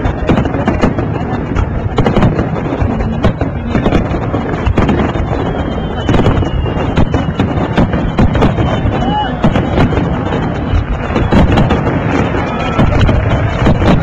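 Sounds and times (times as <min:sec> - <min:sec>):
crowd voices: 0:00.0 - 0:14.0
fireworks bangs and crackling: 0:00.0 - 0:14.0
low rumble: 0:00.0 - 0:14.0.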